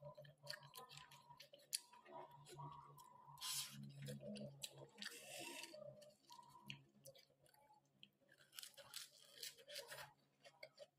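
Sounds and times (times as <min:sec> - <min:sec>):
person chewing food: 0:00.0 - 0:10.9.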